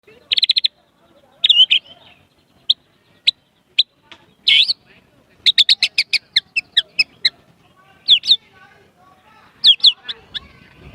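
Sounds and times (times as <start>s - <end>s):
songbird singing: 0.0s - 10.9s.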